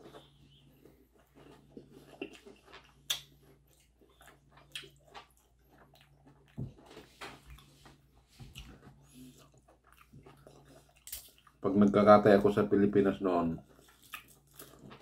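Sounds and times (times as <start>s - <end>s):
crispy food being chewed: 0.0s - 15.0s.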